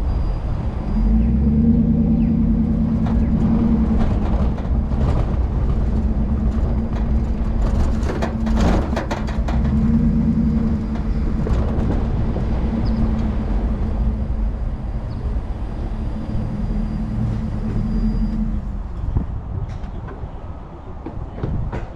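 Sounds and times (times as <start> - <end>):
truck exhaust drone: 0.0 - 19.8.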